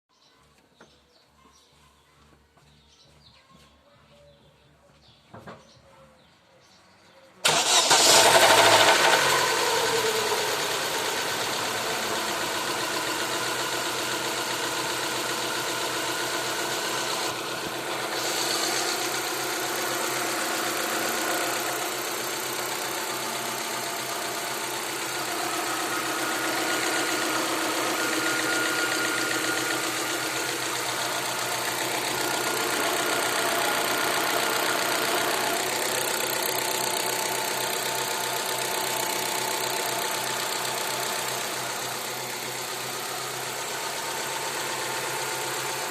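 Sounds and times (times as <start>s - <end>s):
car engine starting and idling: 7.4s - 45.9s.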